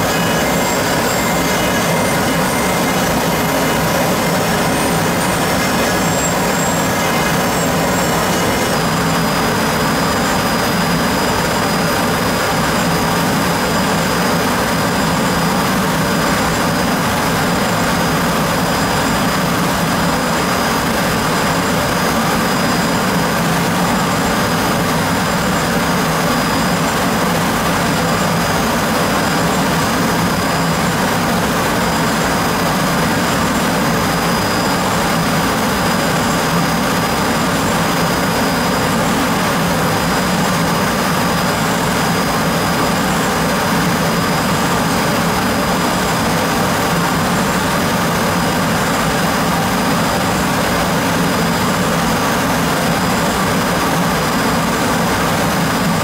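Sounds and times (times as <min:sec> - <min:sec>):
milling machine hiss and whine: 0:00.0 - 0:56.0.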